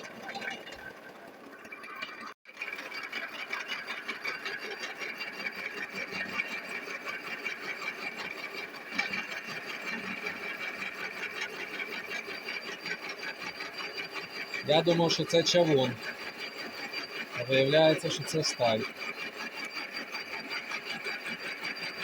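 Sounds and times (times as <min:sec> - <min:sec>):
metal-cutting machine chatter and whine: 0:00.0 - 0:22.0.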